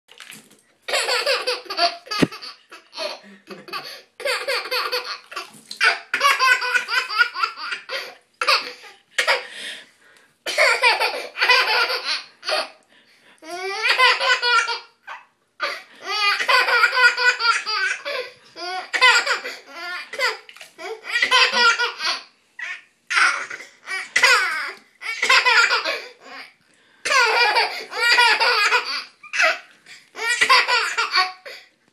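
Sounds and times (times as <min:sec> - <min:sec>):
baby laughing: 0:00.9 - 0:09.4, 0:10.5 - 0:12.7, 0:13.5 - 0:26.5, 0:27.1 - 0:31.6.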